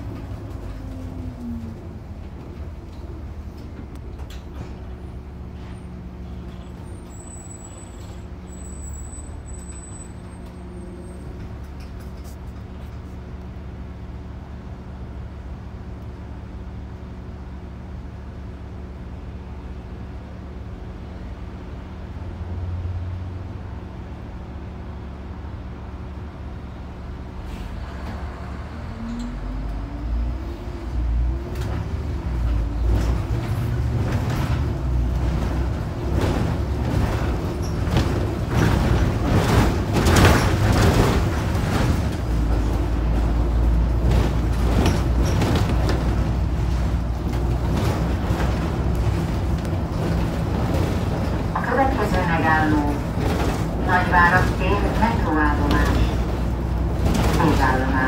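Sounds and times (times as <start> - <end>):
bus engine idling and pulling away: 0.0 - 58.0
road noise: 0.0 - 58.0.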